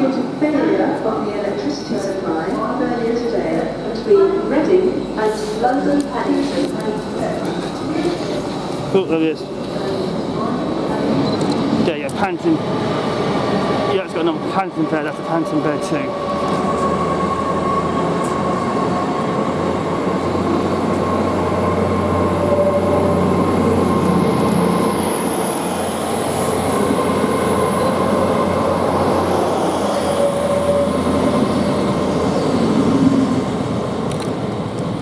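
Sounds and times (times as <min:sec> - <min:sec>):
train rumbling with high whine: 0:00.1 - 0:35.0.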